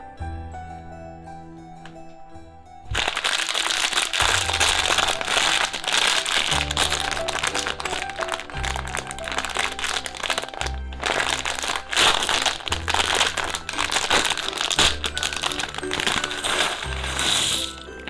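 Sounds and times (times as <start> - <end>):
background music with bass: 0.0 - 18.0
plastic bag crinkling: 2.9 - 18.0.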